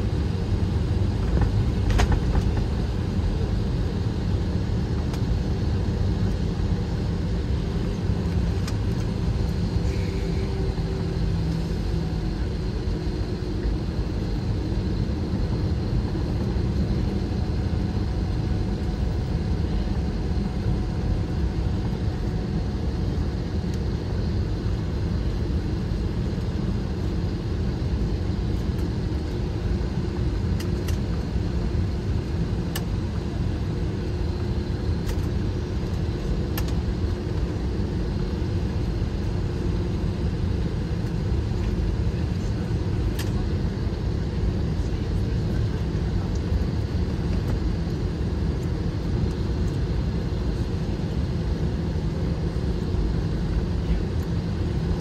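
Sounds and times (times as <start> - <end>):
aircraft engines idling: 0.0 - 55.0.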